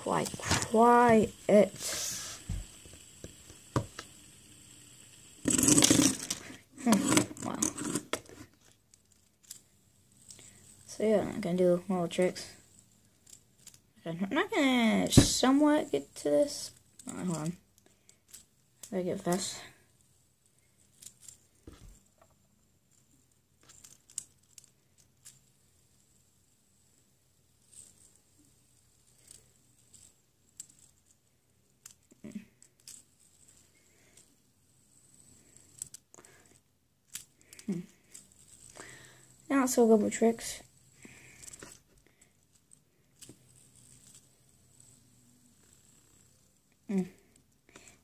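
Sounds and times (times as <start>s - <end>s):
fidget spinner clicks: 0.0s - 20.1s, 22.9s - 48.0s.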